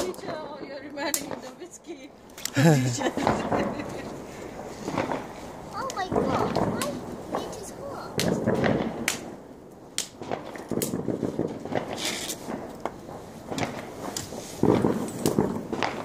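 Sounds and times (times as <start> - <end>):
fireworks cracking: 0.0 - 16.0.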